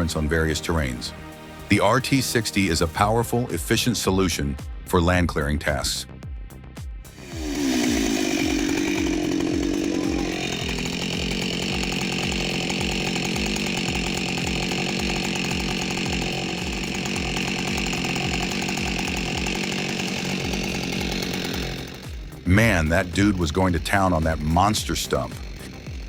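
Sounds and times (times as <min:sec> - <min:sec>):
chainsaw cutting tree stump: 0:00.0 - 0:03.0, 0:07.1 - 0:26.0.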